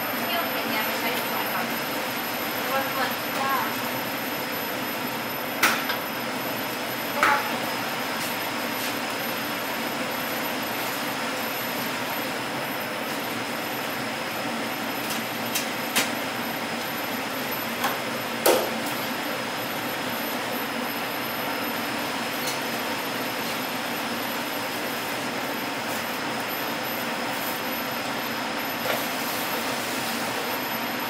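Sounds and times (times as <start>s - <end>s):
kitchen background hiss and hum: 0.0s - 31.0s.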